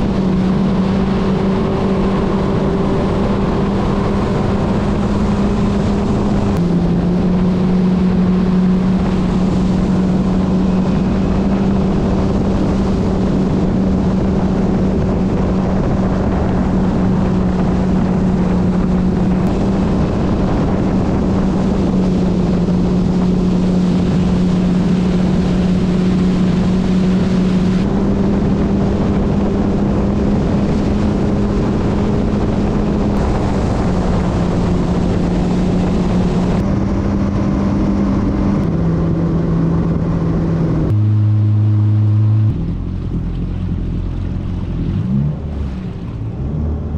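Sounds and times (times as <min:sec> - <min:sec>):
personal watercraft engine running: 0:00.0 - 0:46.9
water rushing: 0:00.0 - 0:46.9
wind: 0:00.0 - 0:46.9.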